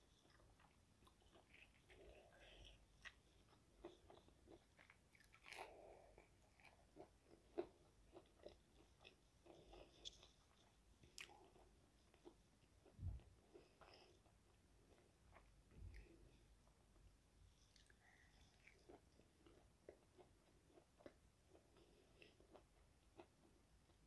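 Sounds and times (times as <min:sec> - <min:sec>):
chewing crispy onion ring: 0:00.0 - 0:16.2, 0:17.6 - 0:24.0.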